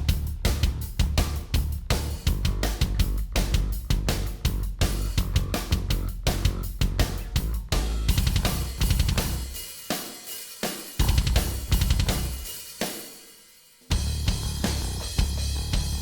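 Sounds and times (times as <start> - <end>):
bass: 0.0 - 9.7, 11.0 - 12.6, 13.9 - 16.0
drum kit playing: 0.0 - 16.0.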